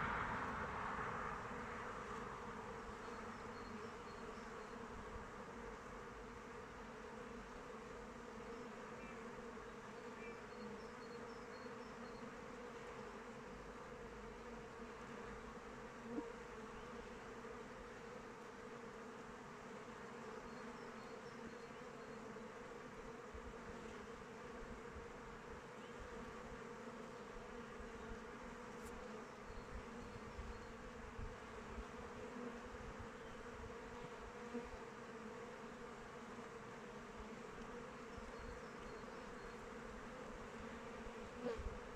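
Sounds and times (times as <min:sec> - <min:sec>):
bees buzzing: 0:00.0 - 0:41.9.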